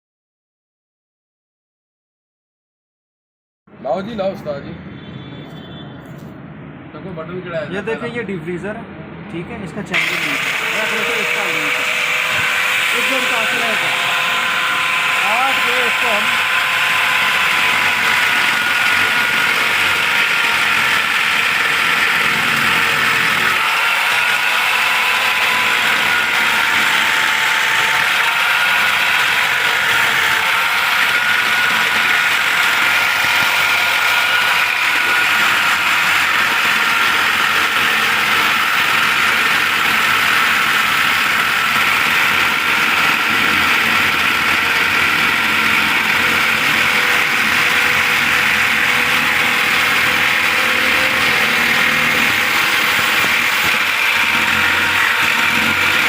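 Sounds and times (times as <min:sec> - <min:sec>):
machine whirring: 0:09.8 - 0:56.0.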